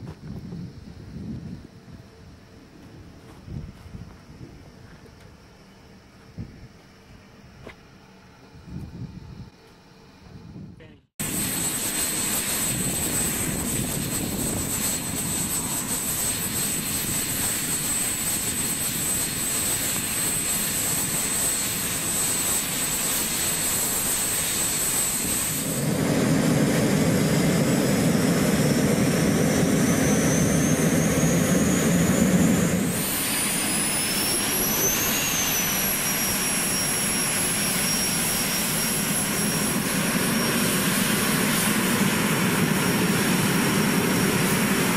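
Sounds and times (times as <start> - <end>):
jet engines whining: 0.4 - 44.9.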